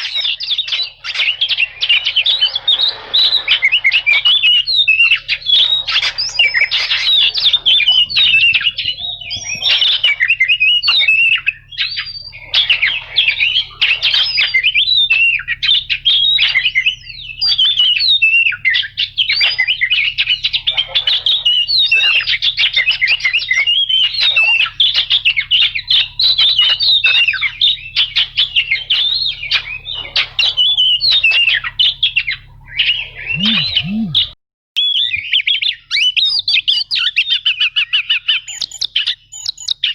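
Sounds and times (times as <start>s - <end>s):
bird singing whistled notes: 0.0s - 20.7s, 21.3s - 39.9s.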